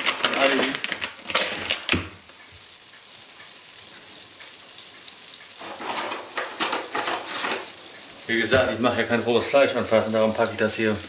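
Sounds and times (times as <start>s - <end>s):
margarine sizzling in a pan: 0.0s - 11.0s.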